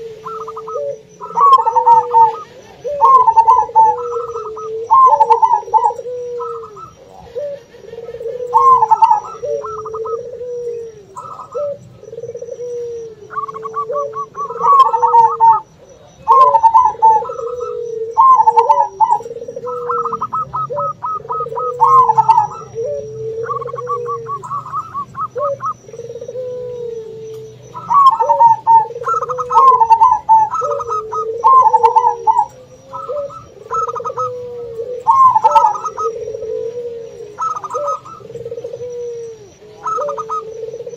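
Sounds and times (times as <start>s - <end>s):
doves cooing in staccato trains: 0.0s - 40.9s
low bowed dove coos: 0.0s - 40.9s.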